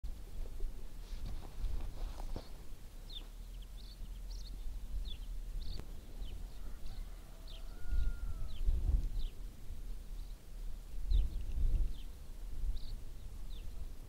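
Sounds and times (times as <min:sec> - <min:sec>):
small birds chirping: 0:01.9 - 0:14.0.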